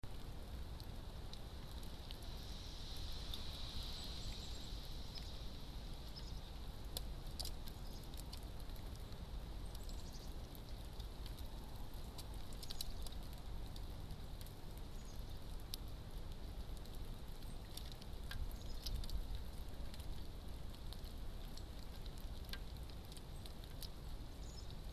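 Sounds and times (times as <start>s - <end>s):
low background noise: 0.0s - 24.9s.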